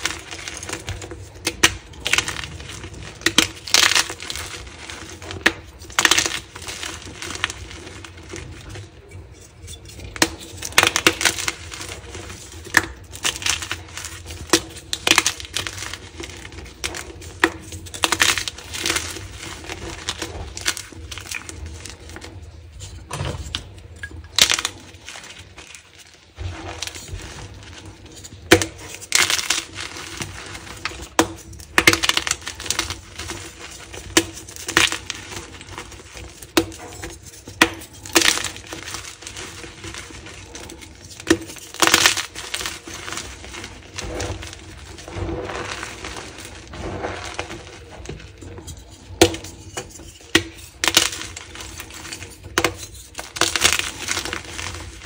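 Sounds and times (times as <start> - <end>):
chalk blocks cracking and crumbling: 0.0 - 55.0.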